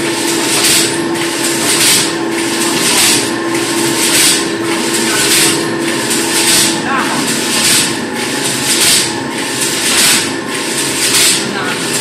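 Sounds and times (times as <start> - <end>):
machine hum: 0.0 - 12.0
loom swishing strokes: 0.4 - 12.0.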